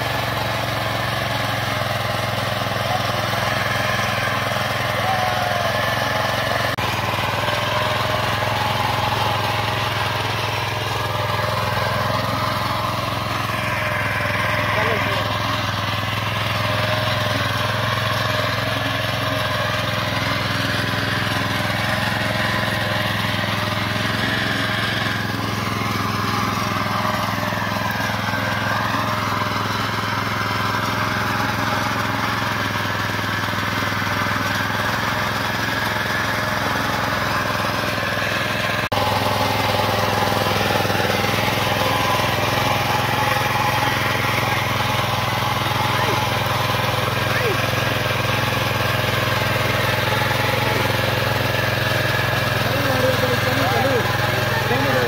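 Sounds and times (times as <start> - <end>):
tiller engine running: 0.0 - 55.0
tines churning soil: 0.0 - 55.0.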